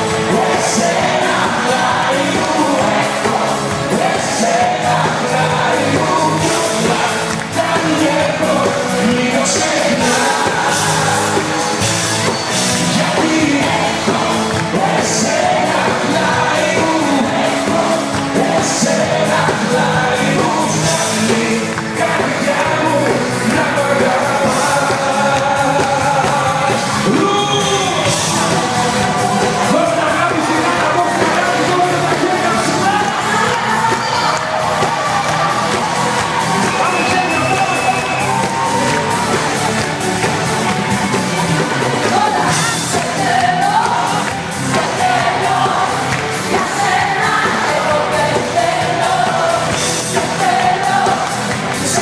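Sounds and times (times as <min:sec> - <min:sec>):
person singing: 0:00.0 - 0:39.4, 0:41.7 - 0:52.0
live band music: 0:00.0 - 0:52.0
steady drum beat: 0:00.0 - 0:52.0.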